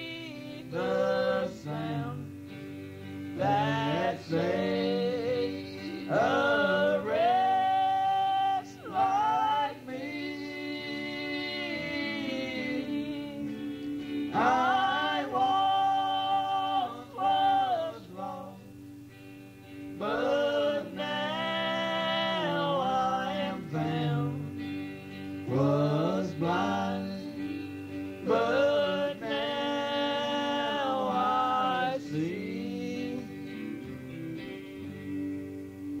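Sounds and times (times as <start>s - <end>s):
group singing gospel song: 0.0s - 2.6s, 3.3s - 18.7s, 19.9s - 34.1s.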